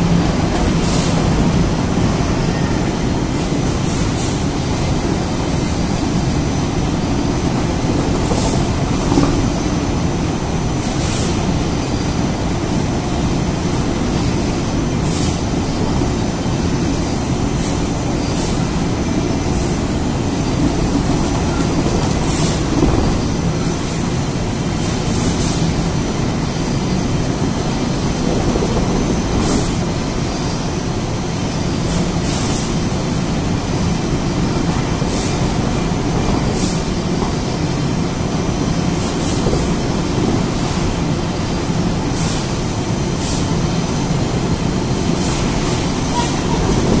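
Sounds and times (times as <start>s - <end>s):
mechanical drone of machinery: 0.0s - 47.0s.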